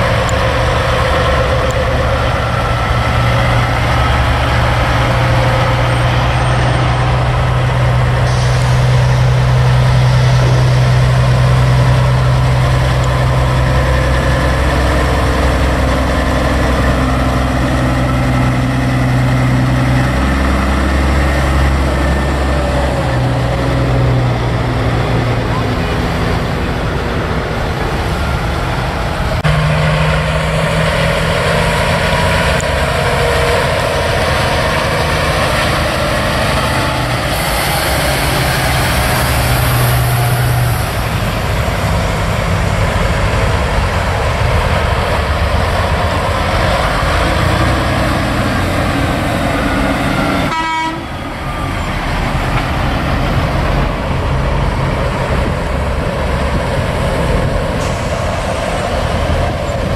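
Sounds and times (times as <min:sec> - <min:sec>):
trucks driving past: 0:00.0 - 0:59.9.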